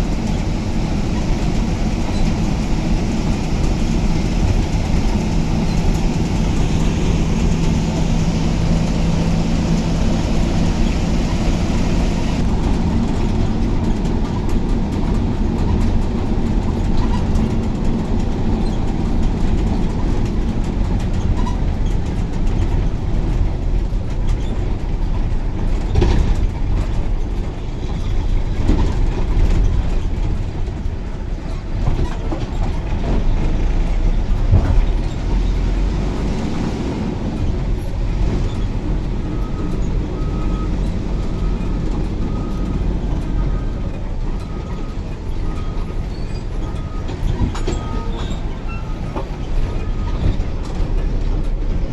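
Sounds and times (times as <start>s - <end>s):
bus engine and tyres rumbling: 0.0s - 51.9s
engine hum: 0.0s - 51.9s.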